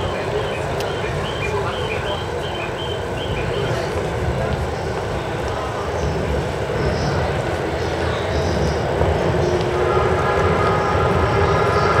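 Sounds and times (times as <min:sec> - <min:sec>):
electric train rumbling in: 0:00.0 - 0:12.0
platform background noise: 0:00.0 - 0:12.0.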